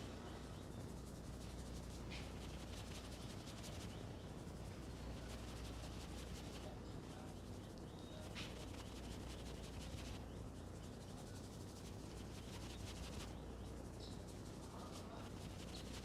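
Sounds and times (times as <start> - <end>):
fingers scratching through hair: 0.8 - 16.0.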